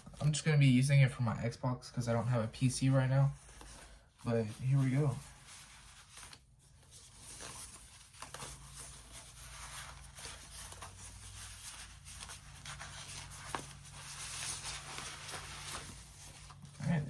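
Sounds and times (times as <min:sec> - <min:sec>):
packaging rustling: 0:03.2 - 0:17.0.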